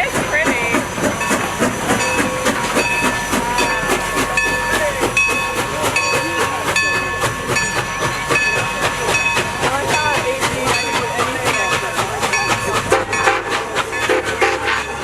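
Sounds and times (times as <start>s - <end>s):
rail car wheels clicking and rattling: 0.0s - 15.0s.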